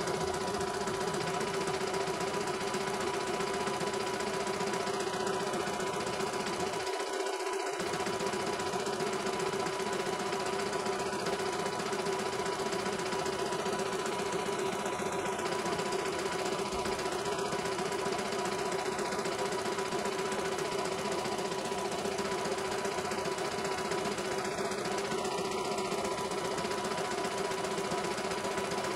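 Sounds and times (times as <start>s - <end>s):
embroidery machine stitching: 0.0s - 28.9s
motor hum: 0.0s - 28.9s.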